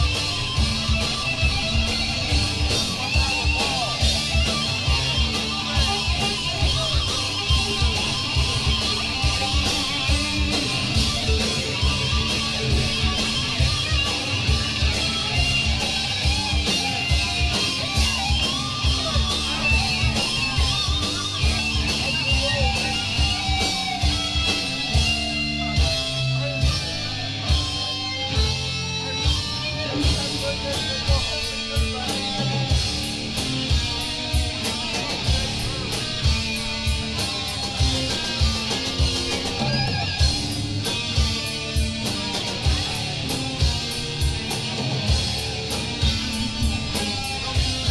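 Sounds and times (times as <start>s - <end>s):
drum beat: 0.0s - 47.9s
electric guitar playing: 0.0s - 47.9s.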